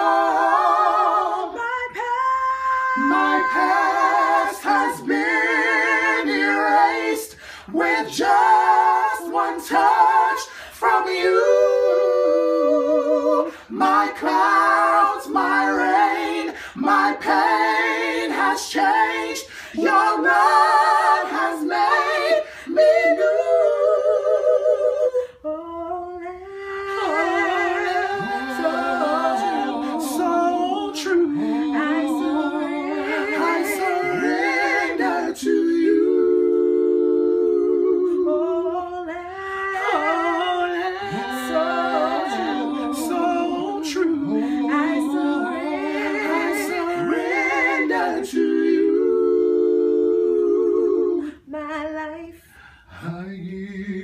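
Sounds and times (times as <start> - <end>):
voices singing in harmony: 0.0 - 54.0.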